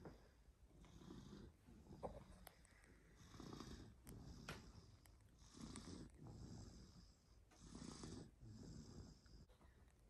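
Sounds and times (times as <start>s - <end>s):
toddler snoring softly: 0.8s - 2.4s, 3.0s - 9.5s.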